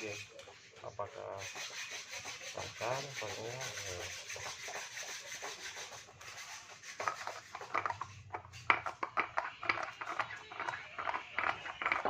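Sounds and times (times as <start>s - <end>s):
metal parts rubbing and scraping: 0.0s - 12.0s
short sharp scrapes and clicks: 0.0s - 12.0s.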